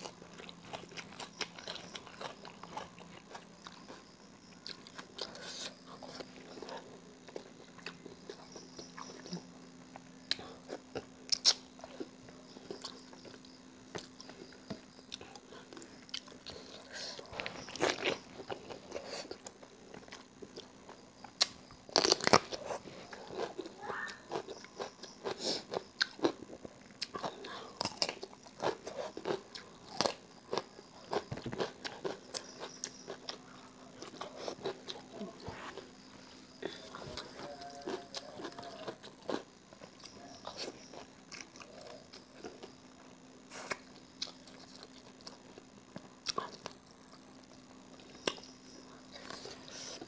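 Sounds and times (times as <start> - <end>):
food crunching: 0.0 - 50.0
woman chewing and biting food: 0.0 - 50.0.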